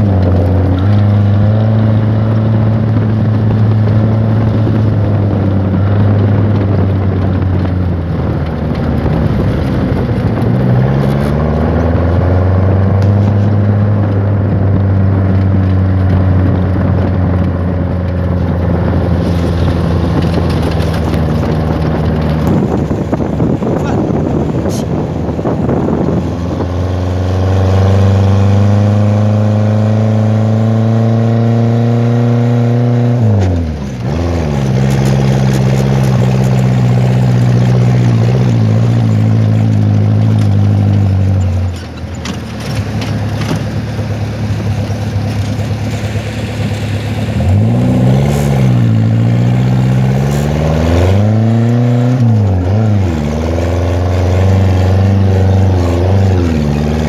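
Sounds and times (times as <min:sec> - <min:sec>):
buggy engine running under load: 0:00.0 - 0:57.0.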